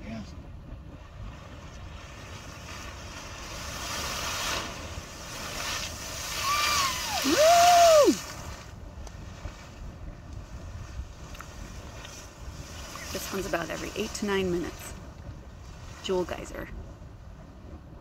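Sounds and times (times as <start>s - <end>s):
geyser rushing water and steam: 0.0s - 18.0s.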